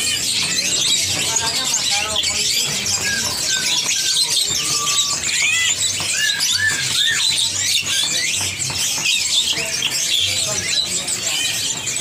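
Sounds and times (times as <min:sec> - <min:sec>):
caged songbirds chirping: 0:00.0 - 0:12.0.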